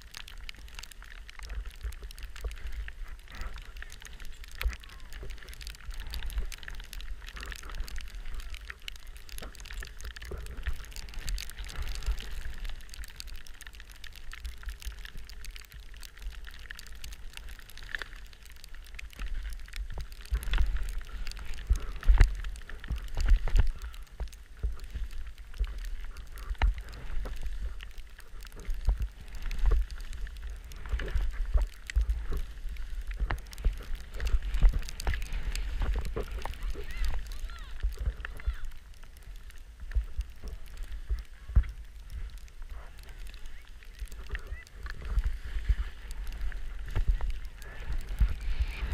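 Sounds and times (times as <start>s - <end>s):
skis scraping over snow: 0.0s - 48.9s.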